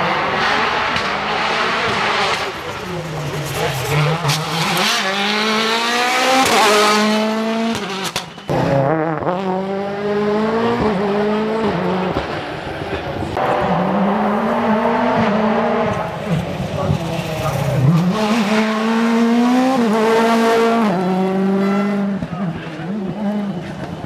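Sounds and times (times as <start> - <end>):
car accelerating: 0.0 - 24.0
rally car engines revving: 0.0 - 24.0.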